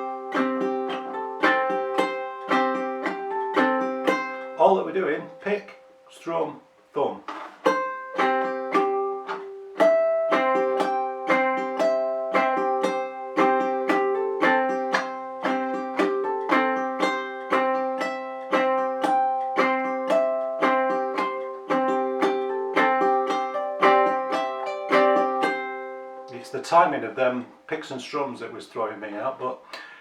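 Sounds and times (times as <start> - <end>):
ukulele picking and strumming: 0.0 - 5.9, 7.2 - 27.6.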